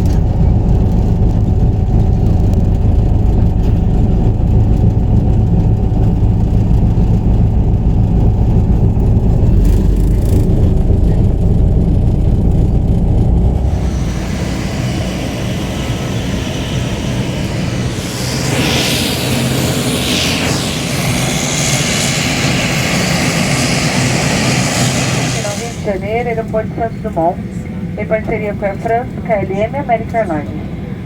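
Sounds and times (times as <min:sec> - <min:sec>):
heavy engine rumbling: 0:00.0 - 0:31.0.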